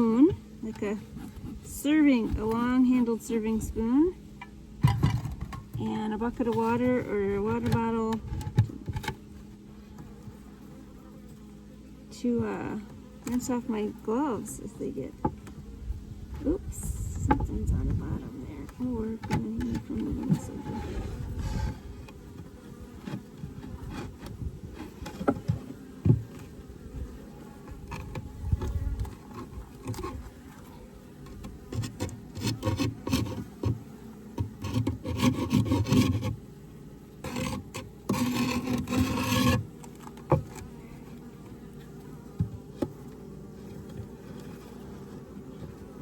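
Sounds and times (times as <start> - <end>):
honeybees buzzing: 0.0 - 46.0.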